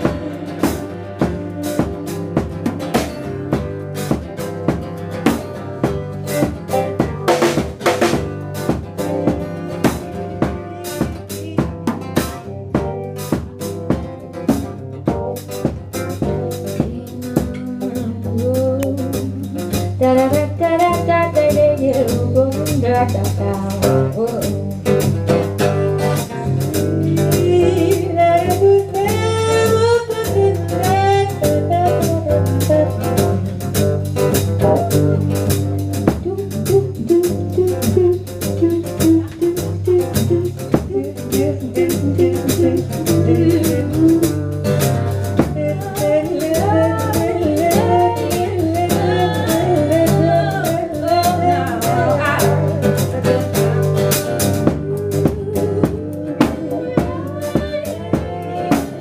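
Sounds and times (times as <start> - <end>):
bending lead melody: 0.0 - 59.0
live band music: 0.0 - 59.0.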